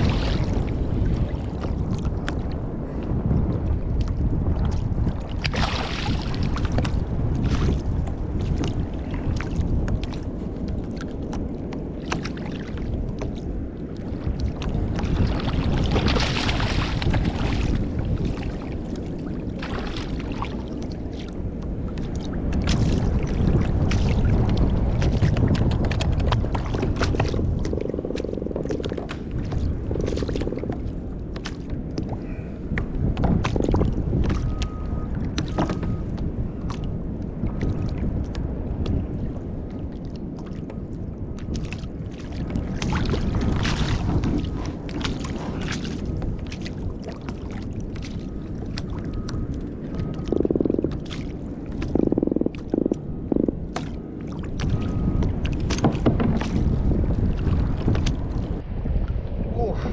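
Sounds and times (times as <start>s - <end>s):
waves slapping against kayak hull: 0.0s - 59.3s
wind buffeting microphone: 0.0s - 59.9s.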